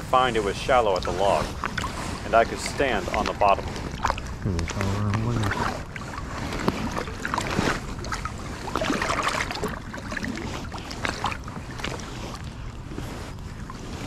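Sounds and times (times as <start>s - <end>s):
water splashing against waders: 0.7s - 14.0s.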